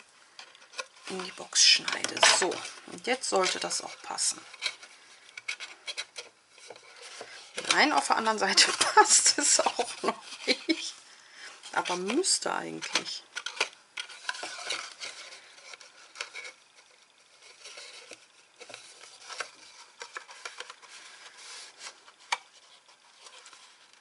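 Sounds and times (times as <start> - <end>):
paper box rustling and scraping: 0.0 - 10.9, 11.5 - 24.0.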